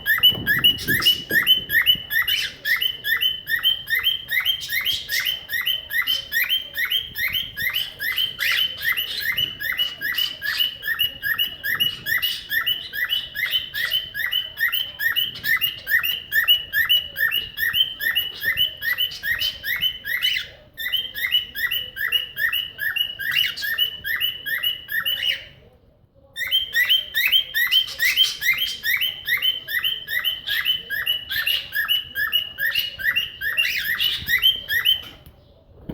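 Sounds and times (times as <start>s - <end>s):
cockatiel chirping: 0.0s - 25.6s, 26.4s - 35.3s.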